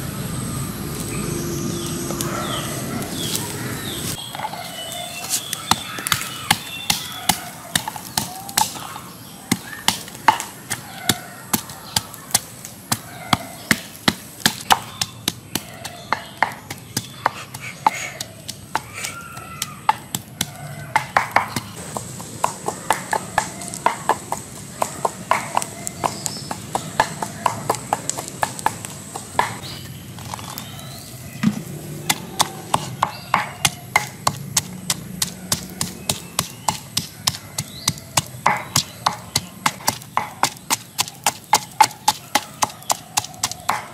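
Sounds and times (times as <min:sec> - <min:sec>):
wooden pestle pounding in mortar: 0:04.2 - 0:29.8, 0:31.4 - 0:43.9.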